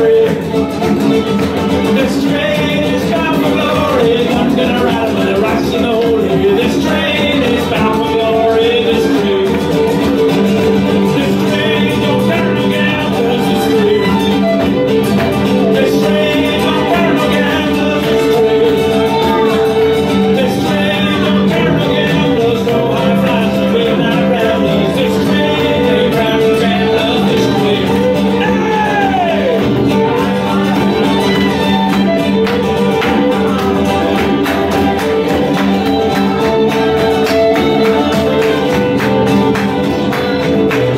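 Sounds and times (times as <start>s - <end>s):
person singing: 0.0s - 40.9s
strummed acoustic guitar: 0.0s - 40.9s
bowed fiddle: 0.5s - 40.9s.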